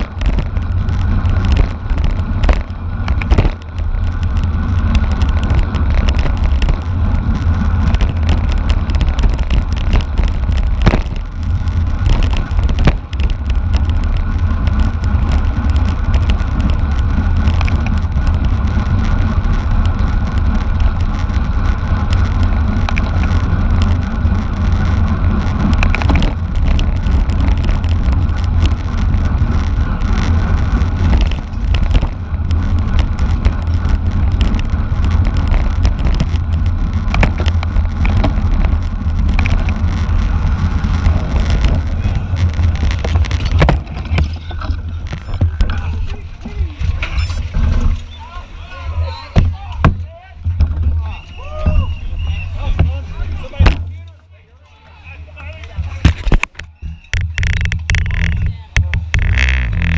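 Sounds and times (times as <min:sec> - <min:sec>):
sharp knocks from road bumps: 0:00.0 - 0:24.3, 0:25.2 - 0:48.2, 0:49.4 - 0:54.0, 0:55.4 - 0:59.9
wind rumble on microphone: 0:00.0 - 0:54.1, 0:55.6 - 0:59.9
bicycle road noise: 0:00.0 - 0:59.9.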